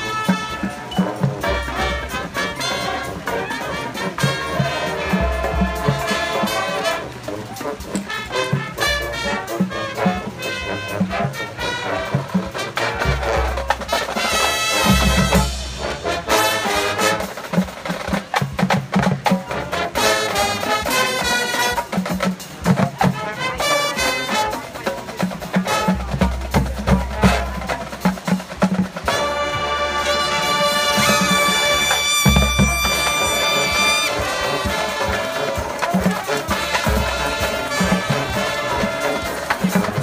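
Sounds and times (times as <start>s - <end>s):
brass horn line: 0.0s - 40.0s
marching drums: 0.0s - 40.0s
percussion: 0.0s - 40.0s.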